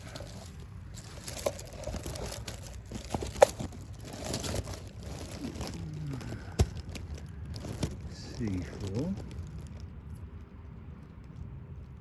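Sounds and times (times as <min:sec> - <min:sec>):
hedge leaves rustling: 0:00.0 - 0:10.5.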